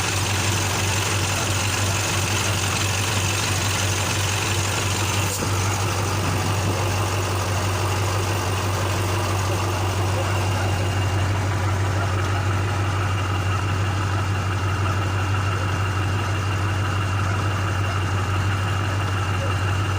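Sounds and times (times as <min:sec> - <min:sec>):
diesel truck engine idling: 0:00.0 - 0:19.9.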